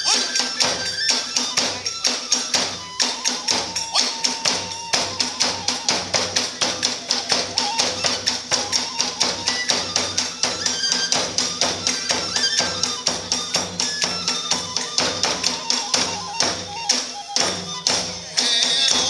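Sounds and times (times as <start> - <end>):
drums and hand cymbals beating: 0.0 - 19.0.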